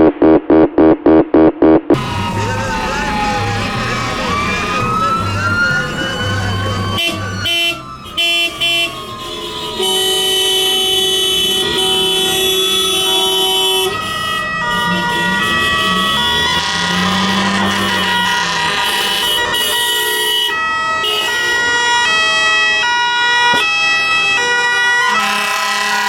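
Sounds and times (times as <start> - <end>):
fire engine sirens wailing: 1.9 - 26.0
fire engine horn blasts: 2.0 - 26.0.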